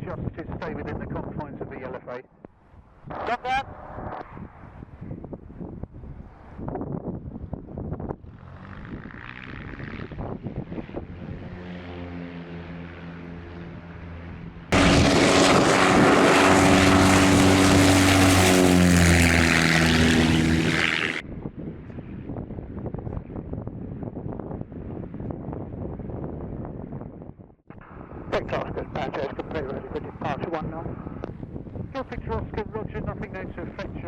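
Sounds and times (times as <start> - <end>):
close propeller plane at high power: 0.0 - 34.0
propeller aircraft engine droning: 0.0 - 34.0.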